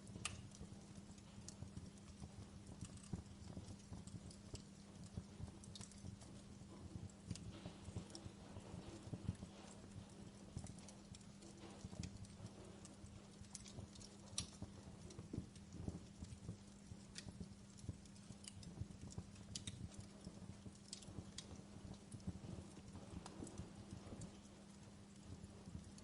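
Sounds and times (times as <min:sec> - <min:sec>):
faint steady hum: 0:00.0 - 0:26.0
low rumble of flames: 0:00.0 - 0:26.0
wood fire crackling and popping: 0:00.0 - 0:26.0.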